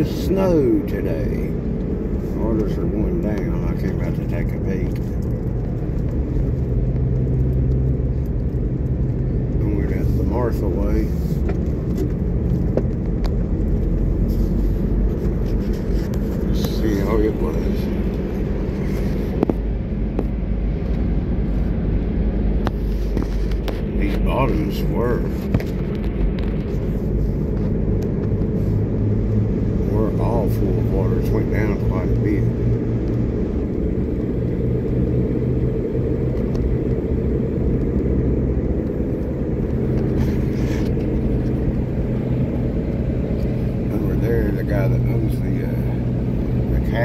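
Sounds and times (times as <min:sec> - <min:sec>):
car engine: 0:00.0 - 0:47.0
tyres rumbling on wet road: 0:00.0 - 0:47.0.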